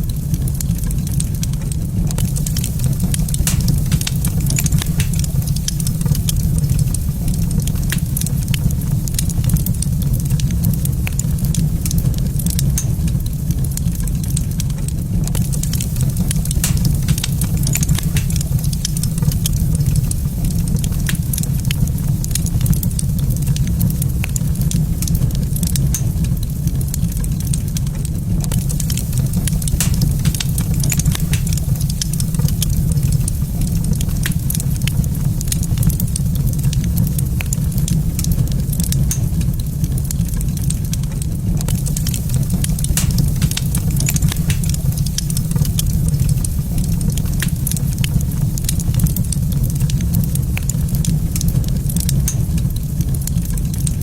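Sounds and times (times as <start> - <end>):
fireplace crackling and popping: 0.0 - 54.0
steady low rumble: 0.0 - 54.0.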